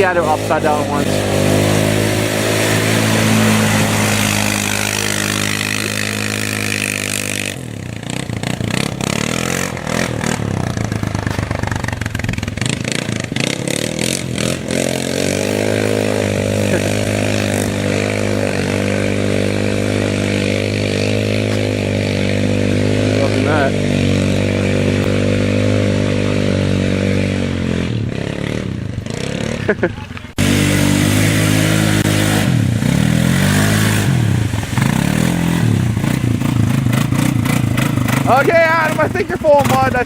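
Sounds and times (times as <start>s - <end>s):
quad engine idling: 0.0s - 40.0s.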